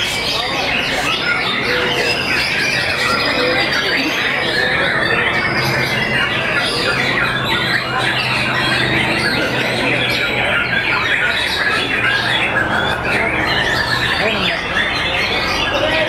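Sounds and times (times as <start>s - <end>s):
birds whistling and chattering: 0.0s - 16.0s.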